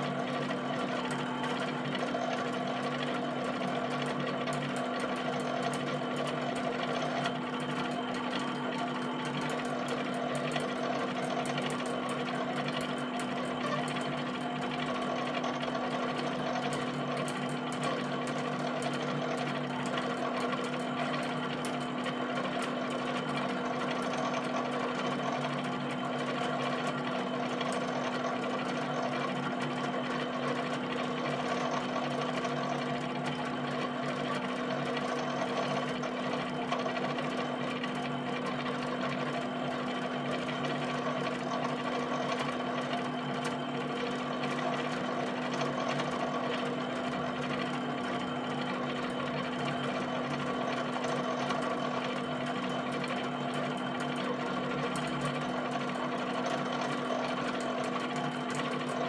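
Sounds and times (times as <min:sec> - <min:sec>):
pen plotter motors humming: 0:00.0 - 0:59.0
plotter mechanical chatter: 0:00.0 - 0:59.0.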